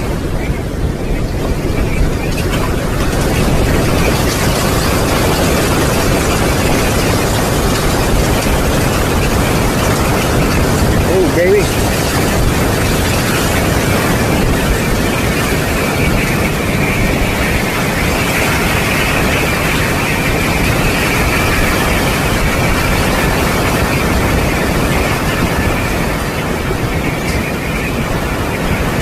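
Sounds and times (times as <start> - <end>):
storm wind with high whistling: 0.0 - 29.0.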